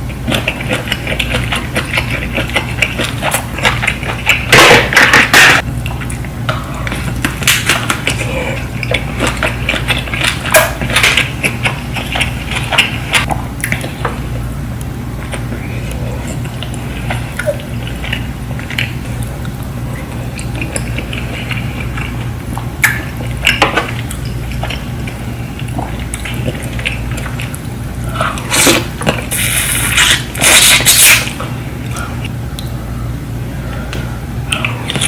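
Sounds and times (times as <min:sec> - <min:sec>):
wet chewing sounds: 0:00.0 - 0:32.8
steady low hum: 0:00.0 - 0:35.0.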